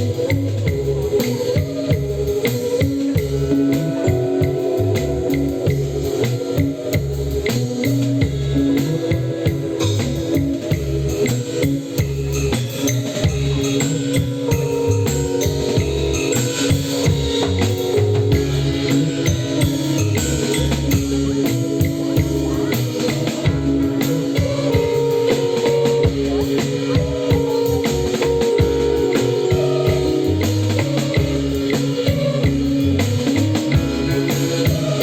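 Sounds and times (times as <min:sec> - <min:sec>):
bass line: 0:00.0 - 0:35.0
drum kit and percussion: 0:00.0 - 0:35.0
guitar and keyboard notes: 0:00.0 - 0:35.0.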